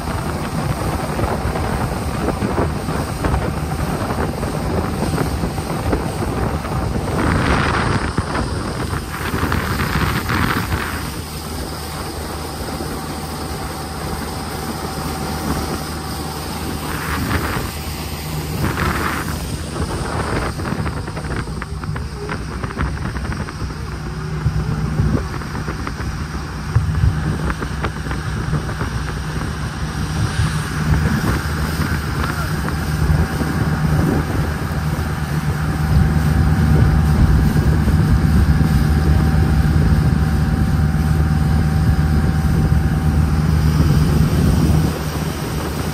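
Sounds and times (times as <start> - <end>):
jet boat engine running: 0.0 - 45.9
water rushing: 0.0 - 45.9
wind: 0.0 - 45.9.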